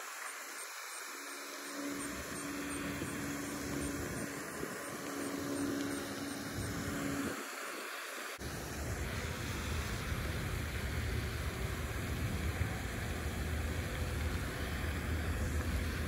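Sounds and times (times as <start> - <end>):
outdoor hiss: 0.0 - 16.0
wind rumble on microphone: 1.9 - 7.5, 8.4 - 16.0.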